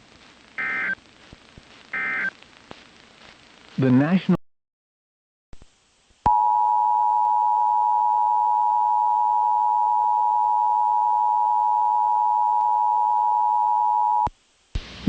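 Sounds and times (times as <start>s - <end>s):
faint radio hiss: 0.0s - 4.4s, 5.6s - 15.0s.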